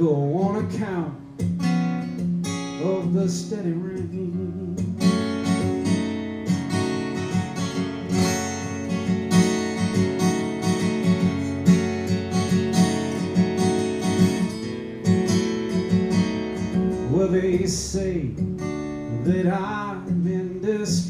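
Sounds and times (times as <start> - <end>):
acoustic guitar picked and strummed: 0.0 - 21.0.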